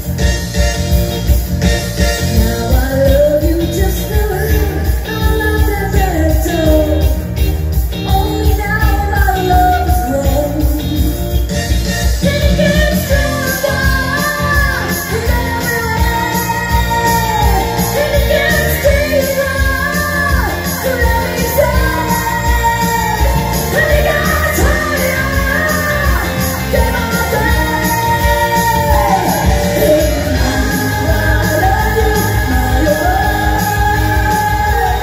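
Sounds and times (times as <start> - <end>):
women singing upbeat pop song: 2.0 - 35.0.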